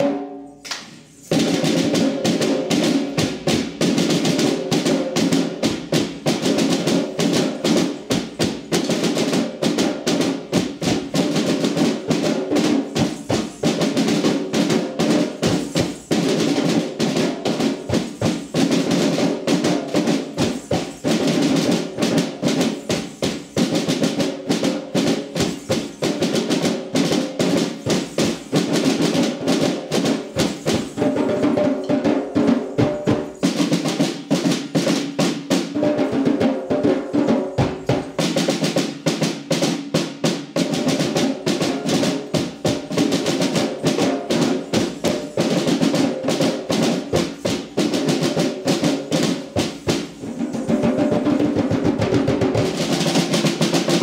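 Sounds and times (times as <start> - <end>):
djembes drumming: 0.0 - 54.0
snare drums: 0.0 - 54.0.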